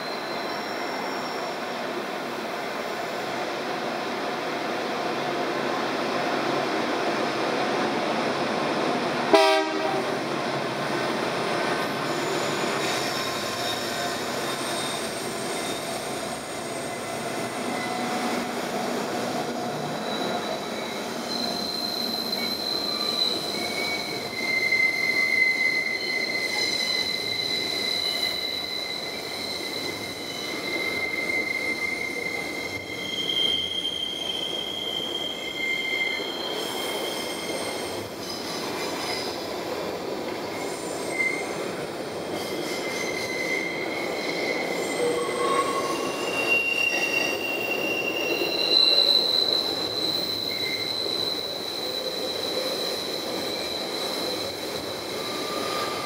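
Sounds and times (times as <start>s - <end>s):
wheel flange squeal: 0.0s - 1.7s, 11.8s - 39.6s, 40.4s - 56.0s
freight train passing: 0.0s - 56.0s.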